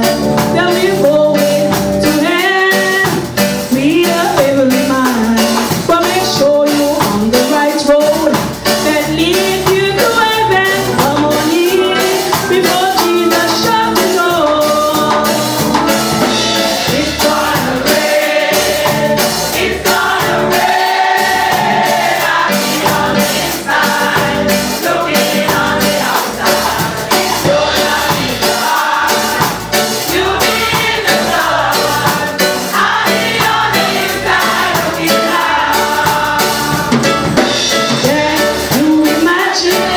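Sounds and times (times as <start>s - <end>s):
band with steady percussion beat: 0.0s - 39.9s
choir singing gospel song: 3.1s - 39.9s.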